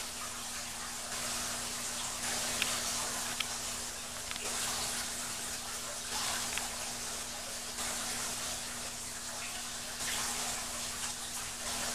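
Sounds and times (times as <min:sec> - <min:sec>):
trickling water: 0:00.0 - 0:11.9.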